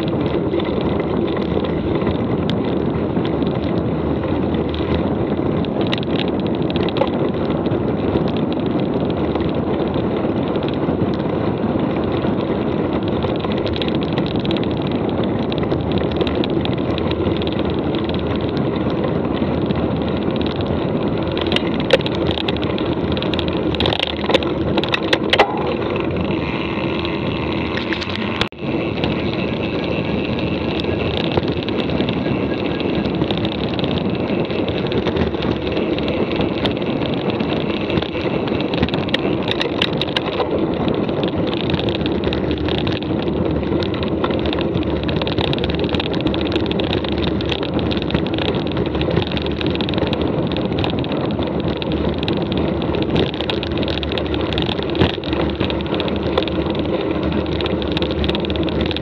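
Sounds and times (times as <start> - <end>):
bike clicks and knocks: 0.0 - 59.0
bike tyres rolling on trail: 0.0 - 59.0
wind on microphone: 0.0 - 59.0.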